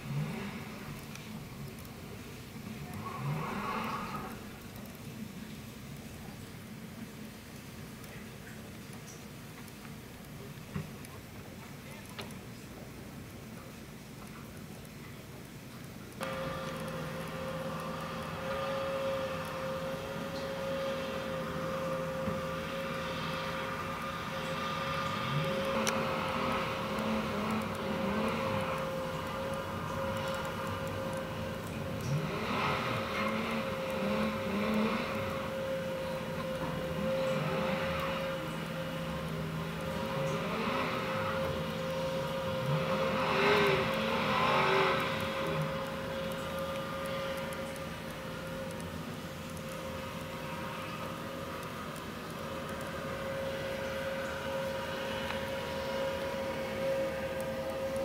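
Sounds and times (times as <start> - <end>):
suv engine revving: 0.0 - 4.9, 16.2 - 58.0
steady mechanical hum: 0.0 - 58.0
steady whine: 0.0 - 58.0.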